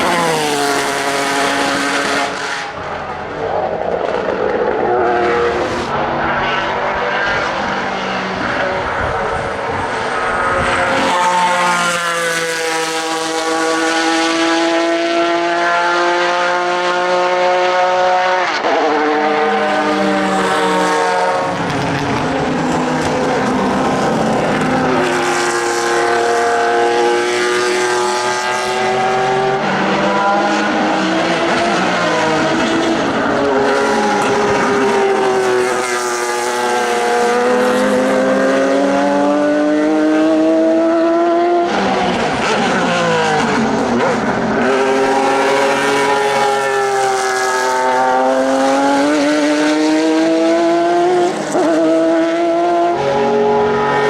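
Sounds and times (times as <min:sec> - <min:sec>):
loud race car engine: 0:00.0 - 0:54.0.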